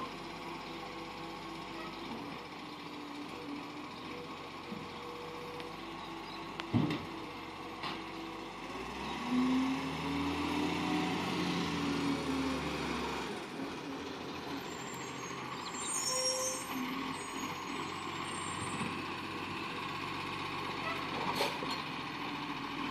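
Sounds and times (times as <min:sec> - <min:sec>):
truck engine revving: 0:02.9 - 0:22.9.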